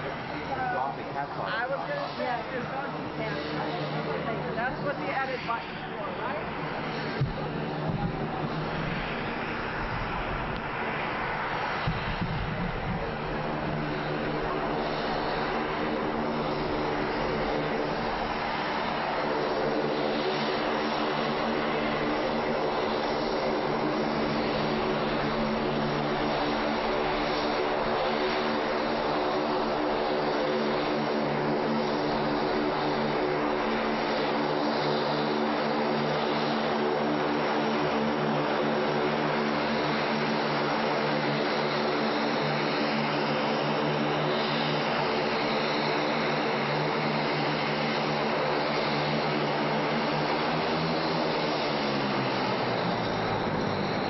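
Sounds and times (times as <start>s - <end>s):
turboprop airplane engines droning: 0.0s - 54.0s.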